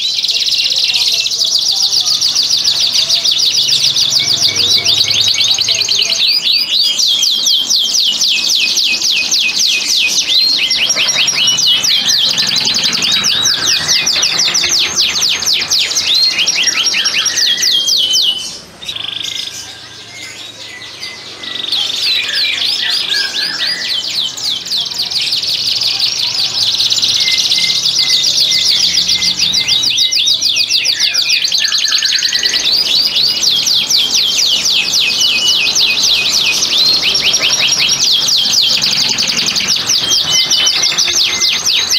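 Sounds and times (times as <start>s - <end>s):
canaries singing trills: 0.0s - 41.9s.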